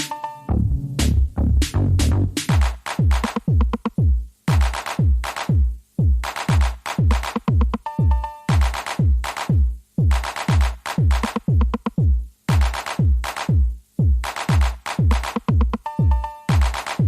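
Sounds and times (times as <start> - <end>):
electronic music: 0.0 - 17.0
deep kick drums: 0.5 - 7.8, 8.5 - 15.8.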